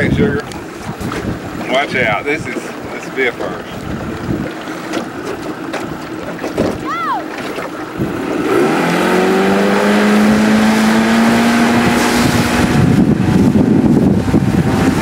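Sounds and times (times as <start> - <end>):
outboard motor under load: 0.0 - 15.0
rushing wind and water: 0.0 - 15.0.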